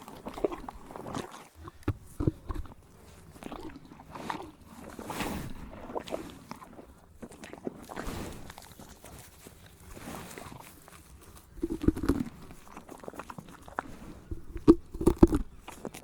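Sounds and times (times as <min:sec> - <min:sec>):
crunching and chewing: 0:00.0 - 0:16.0.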